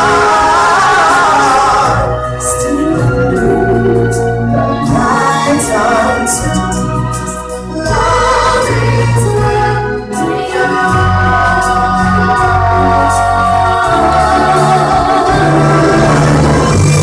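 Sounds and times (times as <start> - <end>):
choir singing: 0.0 - 17.0
loud musical accompaniment: 0.0 - 17.0.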